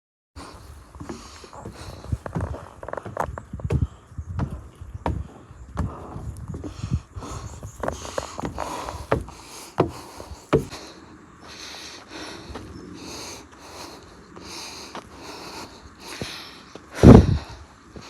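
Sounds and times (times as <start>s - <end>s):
person breathing: 0.4s - 4.2s, 5.1s - 18.0s
footsteps on trail: 0.4s - 18.0s.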